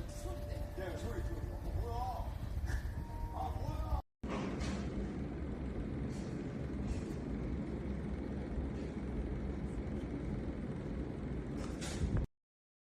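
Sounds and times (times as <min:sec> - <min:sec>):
moving vehicle rumble: 0:00.0 - 0:12.3.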